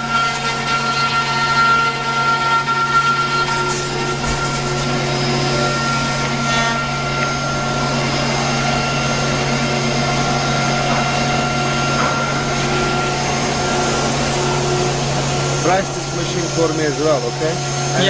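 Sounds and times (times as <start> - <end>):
router spindle milling wood: 0.0 - 18.0.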